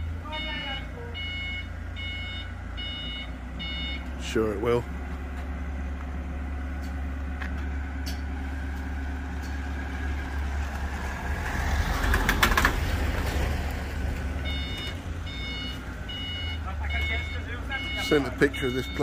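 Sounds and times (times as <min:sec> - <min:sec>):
van driving past: 0:00.0 - 0:19.0
vehicle engine idling: 0:00.0 - 0:19.0.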